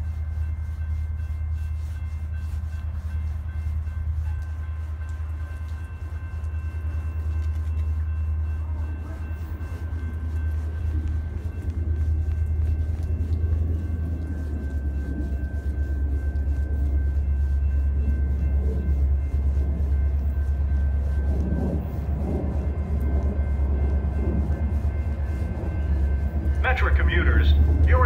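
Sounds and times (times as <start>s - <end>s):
diesel train rumble: 0.0s - 28.0s.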